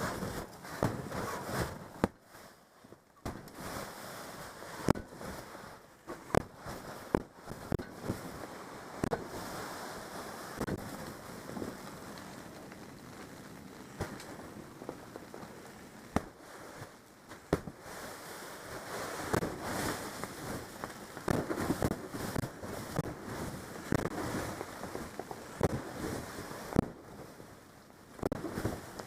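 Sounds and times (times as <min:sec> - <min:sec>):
snow crunching and scraping: 0:00.0 - 0:02.7, 0:03.3 - 0:27.6, 0:28.2 - 0:29.0
wind hissing: 0:03.4 - 0:29.0.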